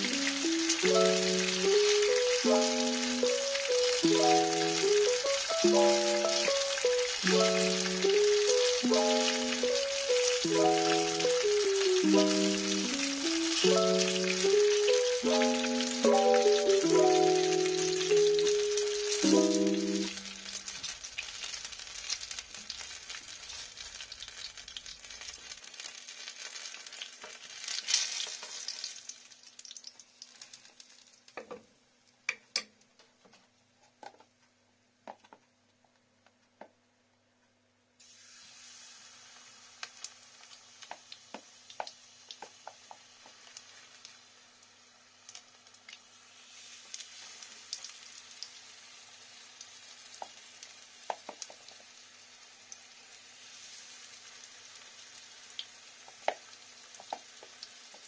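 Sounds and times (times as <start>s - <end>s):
oil sizzling in a frying pan: 0.0s - 32.1s, 38.0s - 58.0s.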